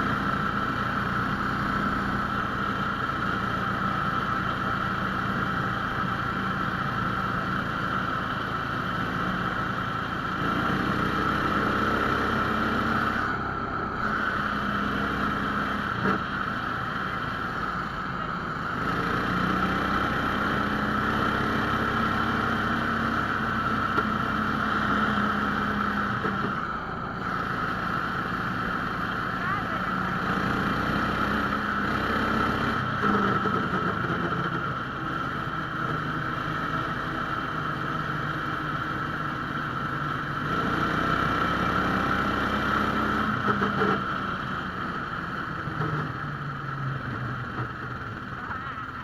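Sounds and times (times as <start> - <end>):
motor sled engine running: 0.0 - 49.0
steady high whine: 0.0 - 49.0.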